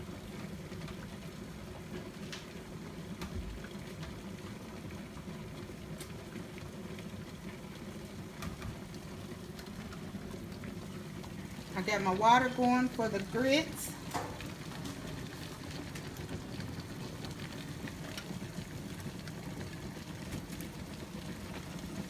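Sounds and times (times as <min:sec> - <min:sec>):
water boiling in a saucepan: 0:00.0 - 0:22.0.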